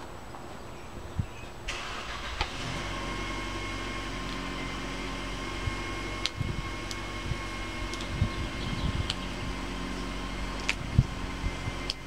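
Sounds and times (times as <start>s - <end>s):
motor humming and whining: 1.7s - 12.0s.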